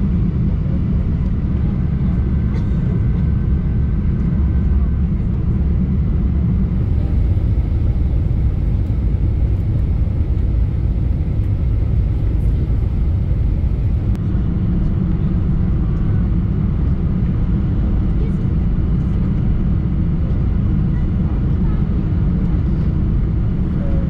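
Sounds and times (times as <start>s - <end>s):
airliner cabin low rumble: 0.0s - 24.0s.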